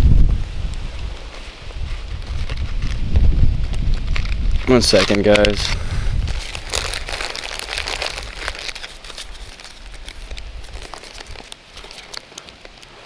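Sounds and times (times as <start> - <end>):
card packaging rustling and crinkling: 1.1 - 13.0.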